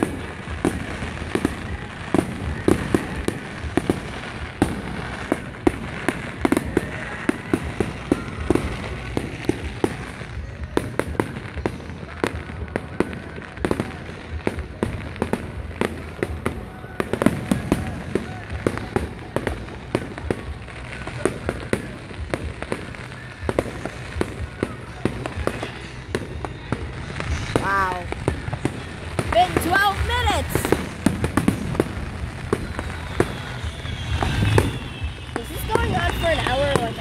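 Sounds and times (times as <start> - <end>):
fireworks bangs and pops: 0.0 - 37.0.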